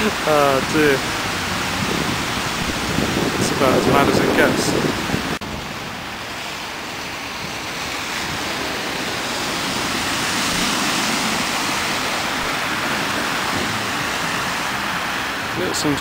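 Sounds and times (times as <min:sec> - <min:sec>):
car splashing through floodwater: 0:00.0 - 0:16.0.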